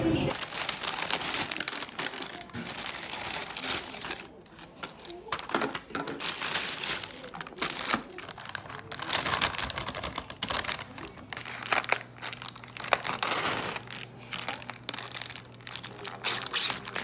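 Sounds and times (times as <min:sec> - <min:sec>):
plastic bag crinkling: 0:00.3 - 0:17.0.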